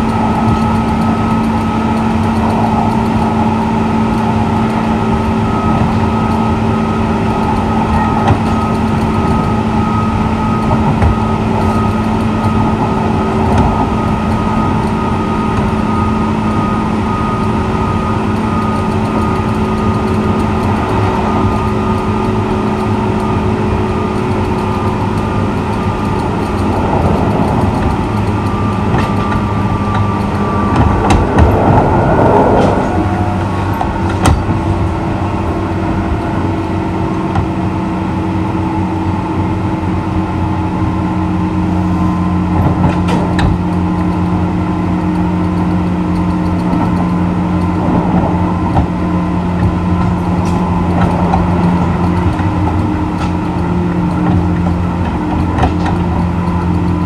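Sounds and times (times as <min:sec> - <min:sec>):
rail joint clicks: 0:00.0 - 0:57.0
train motor hum: 0:00.0 - 0:57.0
train wheels rumbling on rail: 0:00.0 - 0:57.0.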